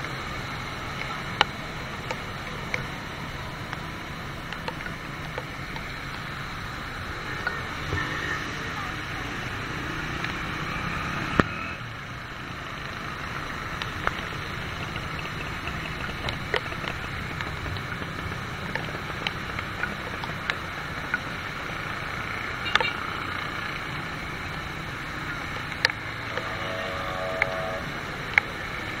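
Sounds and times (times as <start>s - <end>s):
motorcycle engine hum: 0.0s - 29.0s
rain: 0.0s - 29.0s
tyres on wet road: 0.0s - 29.0s.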